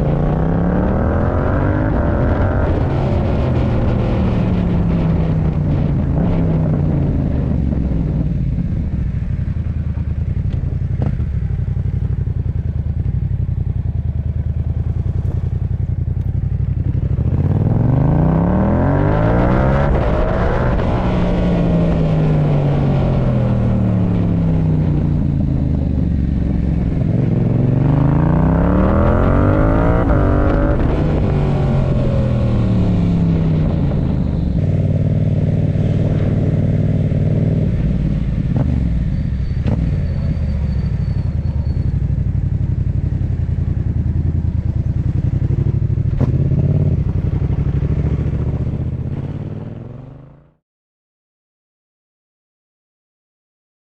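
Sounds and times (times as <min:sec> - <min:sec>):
motorcycle engine revving: 0:00.0 - 0:50.6.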